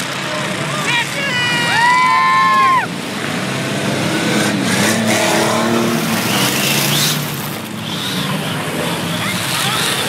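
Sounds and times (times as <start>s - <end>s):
race car engines revving: 0.0s - 10.0s.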